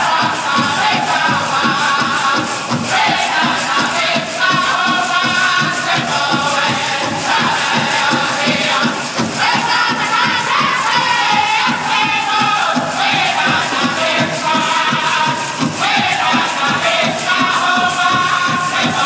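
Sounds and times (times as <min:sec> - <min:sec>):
group singing in wavering voices: 0:00.0 - 0:19.0
steady beat on big drum: 0:00.0 - 0:19.0.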